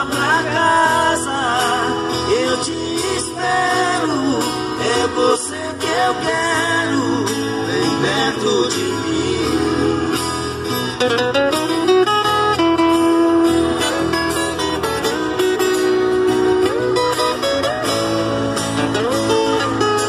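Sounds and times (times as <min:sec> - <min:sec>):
backing band: 0:00.0 - 0:20.0
guitar lead melody: 0:00.0 - 0:20.0.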